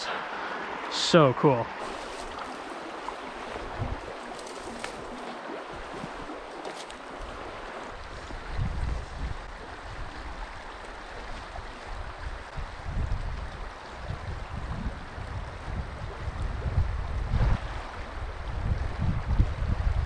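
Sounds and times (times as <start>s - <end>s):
stream water running over riffles: 0.0s - 20.0s
wind gusting on microphone: 1.8s - 20.0s.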